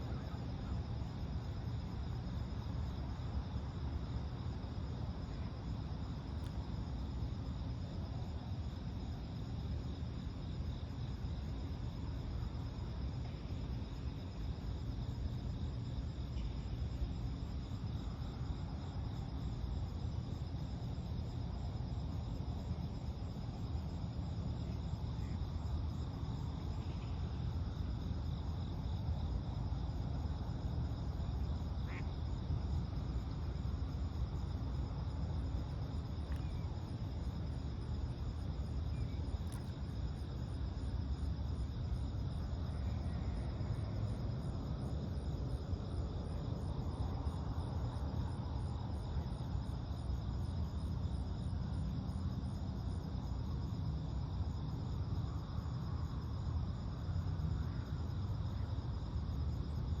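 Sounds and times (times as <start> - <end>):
crickets trilling: 0.0 - 60.0
low outdoor rumble: 0.0 - 60.0.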